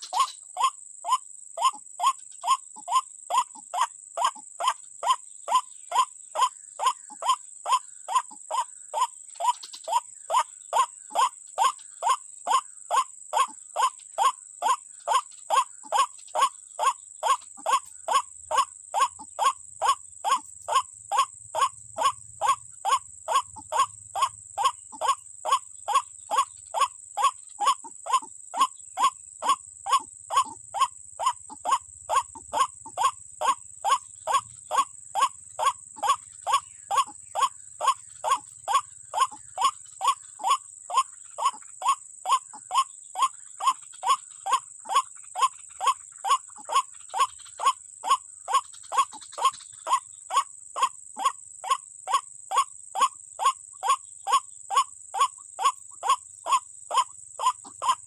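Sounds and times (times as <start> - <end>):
waterhen calls: 0.0 - 58.0.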